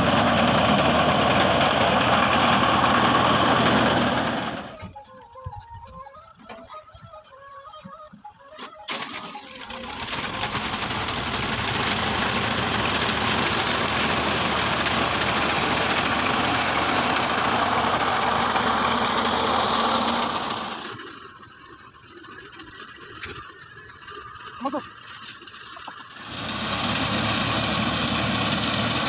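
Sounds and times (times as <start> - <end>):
tractor engine running: 0.0 - 6.6, 8.9 - 29.0.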